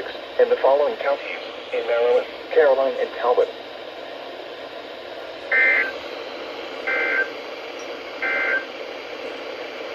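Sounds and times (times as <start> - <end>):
radio hiss: 0.0 - 9.9.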